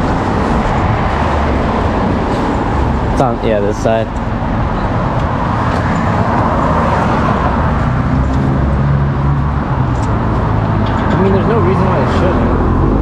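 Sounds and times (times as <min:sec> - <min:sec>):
vehicles passing close by: 0:00.0 - 0:13.0.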